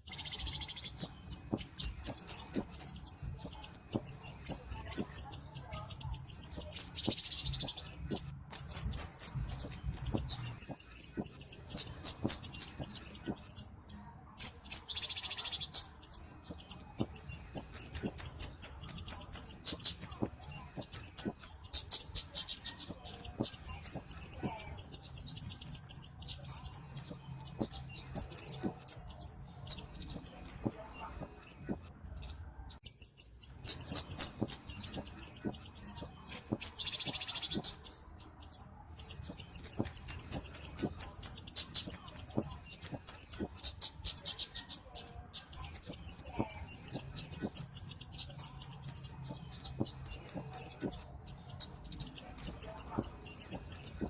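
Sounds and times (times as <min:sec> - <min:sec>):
high-pitched ticking bird chips: 0:00.0 - 0:54.0.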